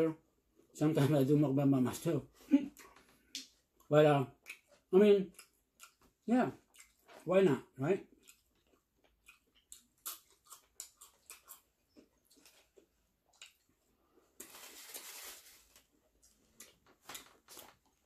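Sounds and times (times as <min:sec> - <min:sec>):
people chewing: 0:02.3 - 0:07.3, 0:08.0 - 0:18.0.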